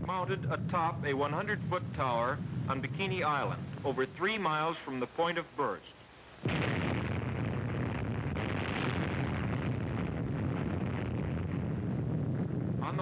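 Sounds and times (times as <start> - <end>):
bomb blast rumble: 0.0 - 4.3, 6.4 - 13.0.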